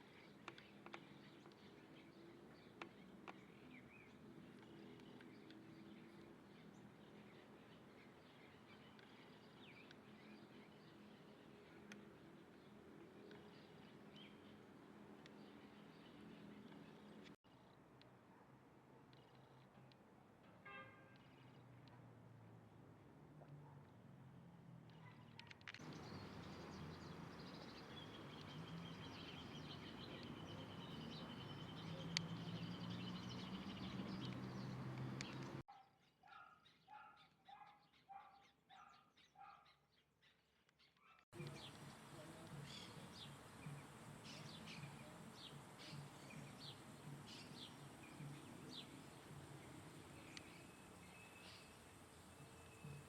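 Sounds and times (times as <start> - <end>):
background noise: 0.0 - 53.0.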